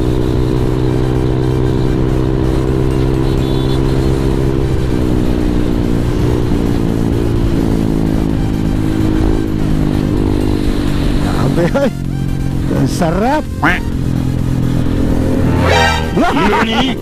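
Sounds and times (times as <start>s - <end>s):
scooter engine cruising: 0.0s - 17.0s.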